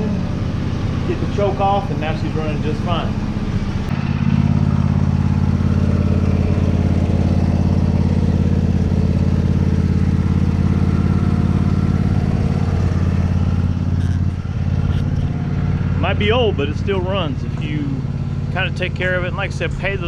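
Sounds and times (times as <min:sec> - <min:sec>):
riding lawn mower engine running: 0:00.0 - 0:20.0.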